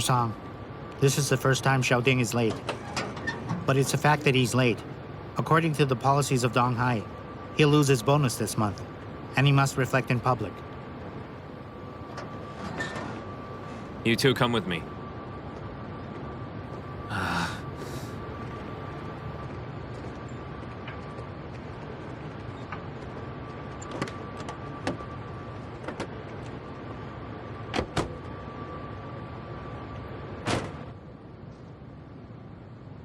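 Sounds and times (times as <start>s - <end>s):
background hum: 0.0s - 33.0s.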